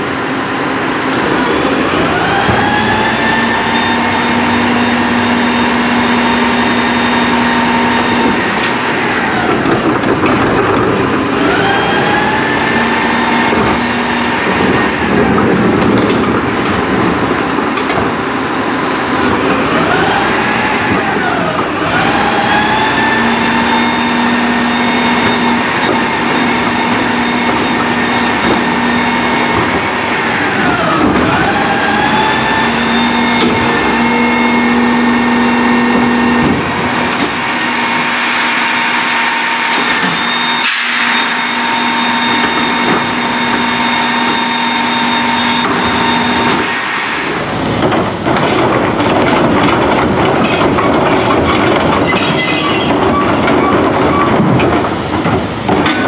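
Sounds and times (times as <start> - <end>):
garbage truck engine: 0.0 - 56.0
hydraulic pump whine: 0.0 - 56.0.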